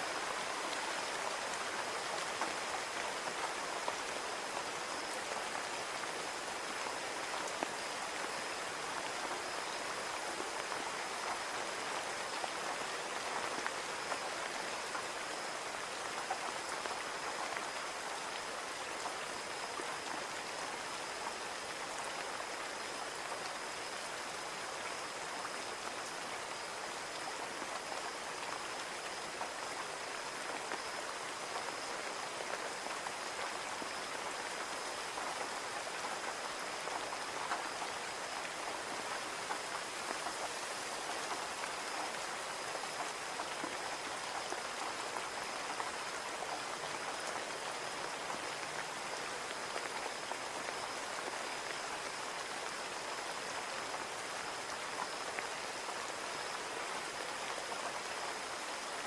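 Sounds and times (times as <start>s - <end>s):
rain on a window pane: 0.1s - 59.0s.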